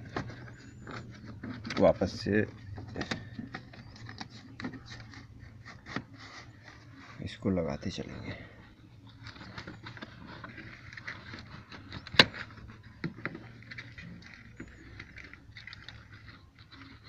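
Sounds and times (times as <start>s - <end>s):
rubber seal rubbing: 0.0s - 7.4s, 8.9s - 17.0s.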